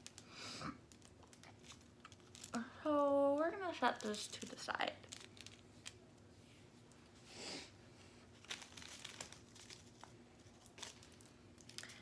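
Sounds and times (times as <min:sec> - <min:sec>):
plastic bags crinkling and clicking: 0:00.0 - 0:07.0, 0:08.2 - 0:12.0.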